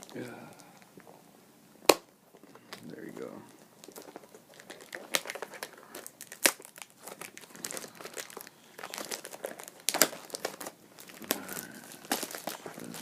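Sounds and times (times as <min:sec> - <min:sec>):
packaging crinkling: 0:00.0 - 0:01.2, 0:01.9 - 0:13.0
packaging snaps: 0:01.8 - 0:13.0.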